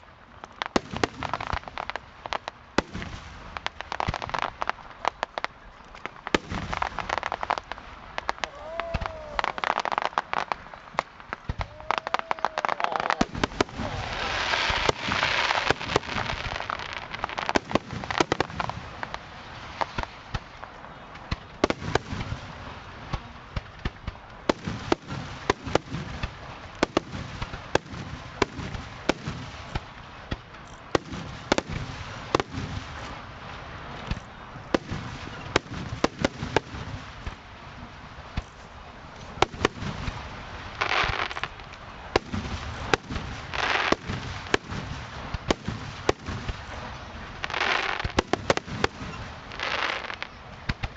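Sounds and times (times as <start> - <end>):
firework crackling: 0.0 - 50.9.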